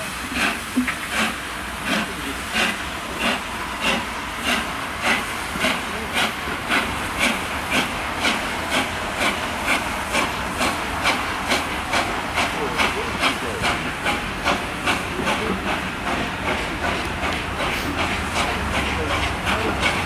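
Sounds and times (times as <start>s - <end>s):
steam hissing: 0.0s - 20.0s
steam locomotive chuffing: 0.0s - 20.0s.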